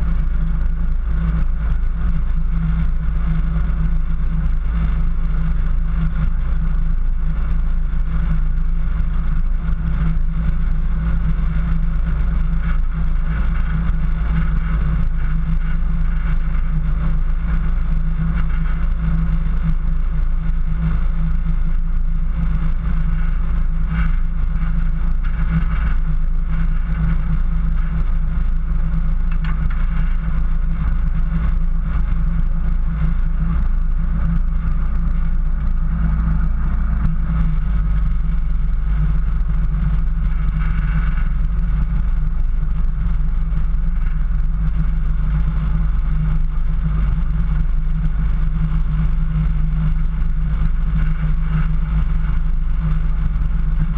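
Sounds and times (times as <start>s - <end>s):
vehicle engine drone: 0.0s - 53.9s.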